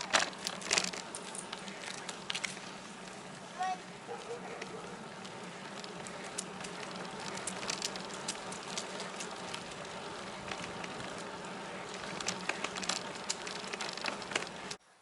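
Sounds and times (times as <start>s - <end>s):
tyres crackling and clicking: 0.0s - 14.8s
bicycle tyres rolling on trail: 0.0s - 15.0s.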